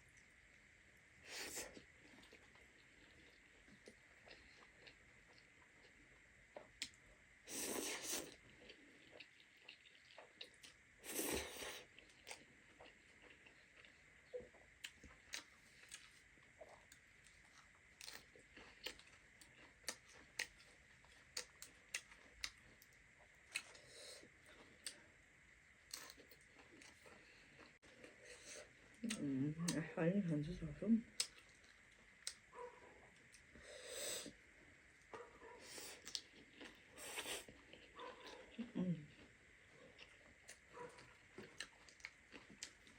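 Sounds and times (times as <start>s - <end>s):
chewing and mouth clicks: 1.6s - 7.0s, 8.0s - 25.0s, 25.9s - 28.2s, 28.9s - 29.8s, 31.2s - 33.5s, 35.7s - 42.9s.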